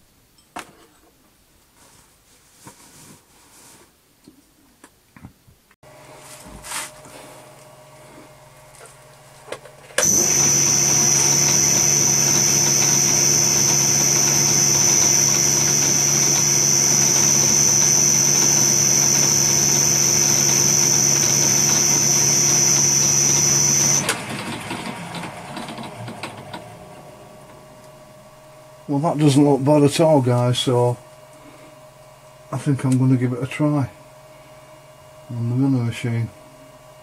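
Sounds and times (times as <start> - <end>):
grinding spindle humming and whining: 5.9 - 36.9.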